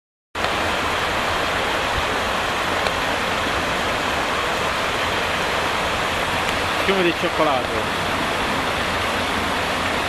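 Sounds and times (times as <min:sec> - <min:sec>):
muddy water rushing: 0:00.4 - 0:10.0.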